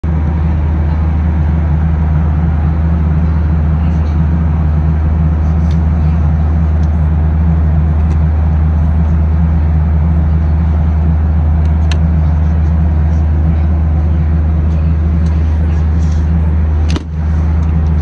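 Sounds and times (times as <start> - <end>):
airliner cabin drone: 0.0 - 18.0.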